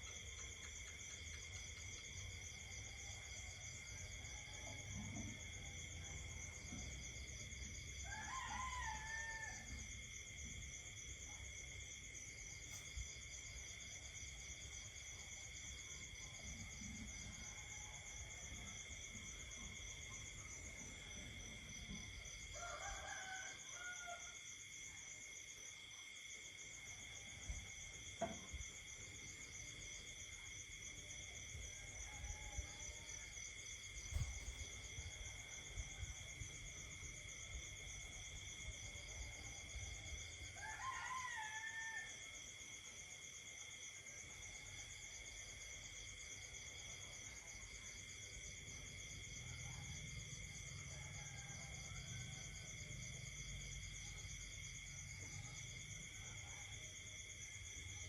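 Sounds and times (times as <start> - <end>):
insects and frogs trilling: 0.0 - 58.0.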